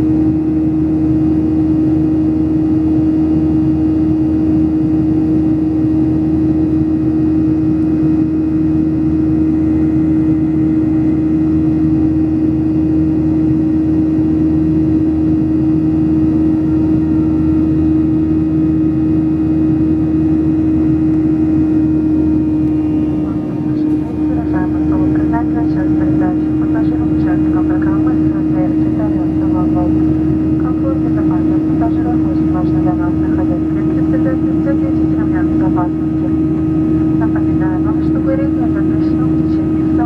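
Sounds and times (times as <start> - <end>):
jet engine drone in cabin: 0.0 - 40.0.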